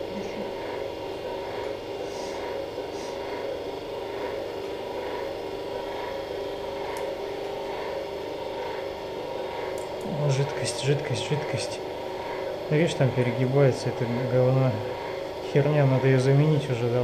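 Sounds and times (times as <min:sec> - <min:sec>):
medical equipment hum: 0:00.0 - 0:17.0.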